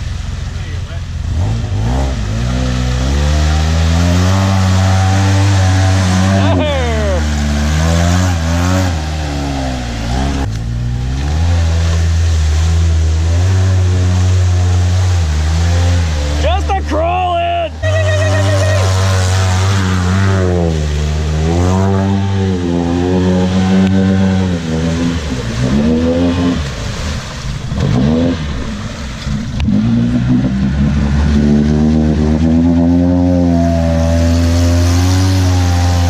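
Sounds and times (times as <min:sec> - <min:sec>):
utility vehicle engine revving: 0:00.0 - 0:36.0.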